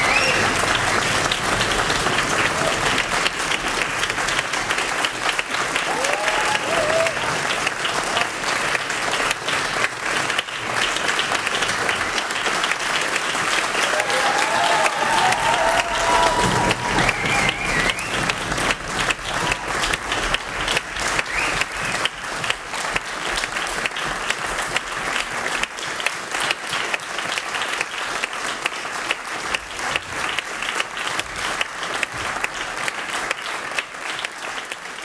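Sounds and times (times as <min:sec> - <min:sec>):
audience applauding: 0:00.0 - 0:35.0.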